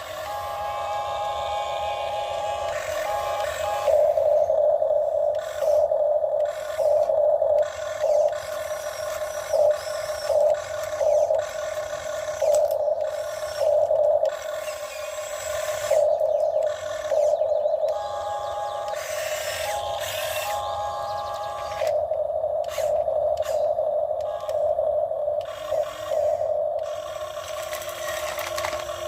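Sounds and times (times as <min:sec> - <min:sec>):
broad noise: 0:00.0 - 0:29.0
electric motors whining: 0:00.0 - 0:29.0.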